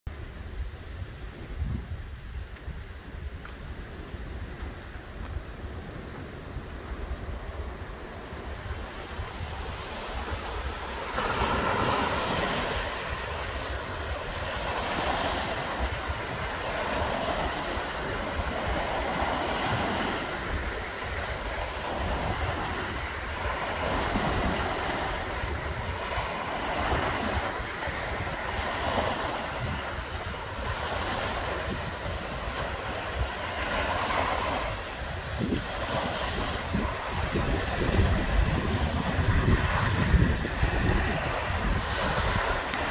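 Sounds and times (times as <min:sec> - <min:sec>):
small waves washing onto beach: 0:00.1 - 0:42.9
wind rumble on microphone: 0:00.1 - 0:42.9.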